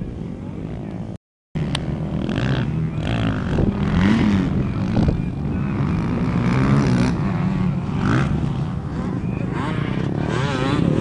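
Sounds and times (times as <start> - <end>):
dirt bike engines revving: 0.1 - 11.0.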